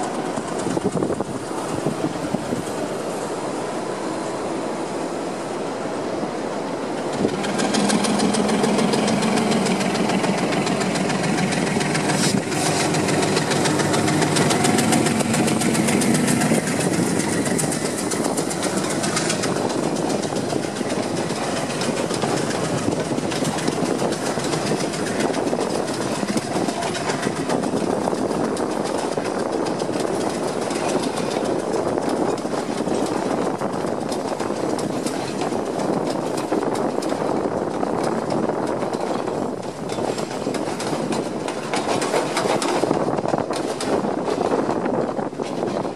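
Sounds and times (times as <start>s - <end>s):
diesel locomotive engine hum: 0.0s - 45.9s
train wheels rolling on rails: 0.0s - 45.9s.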